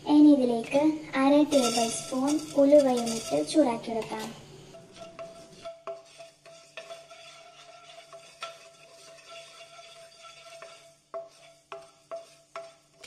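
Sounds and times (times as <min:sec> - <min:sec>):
spatula scraping seeds in pan: 0:01.3 - 0:13.0
seeds tapping a pan: 0:01.5 - 0:13.0.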